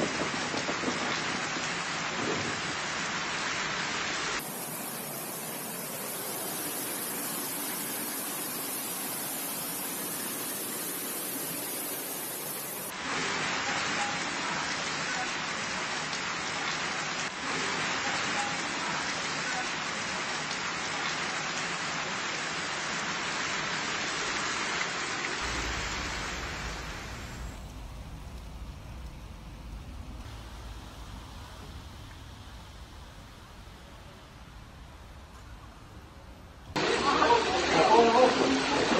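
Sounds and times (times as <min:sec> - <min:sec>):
rushing floodwater: 0:00.0 - 0:36.2, 0:36.8 - 0:38.9
heavy rain: 0:00.0 - 0:38.9.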